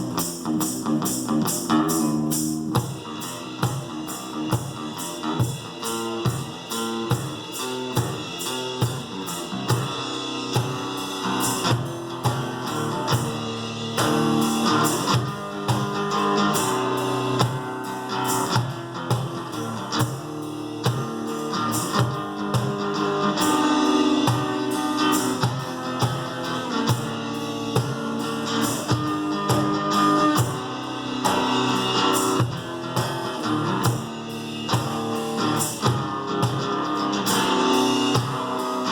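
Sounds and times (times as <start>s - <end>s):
acoustic guitar playing: 0.0s - 38.9s
drums keeping a steady beat: 0.0s - 38.9s.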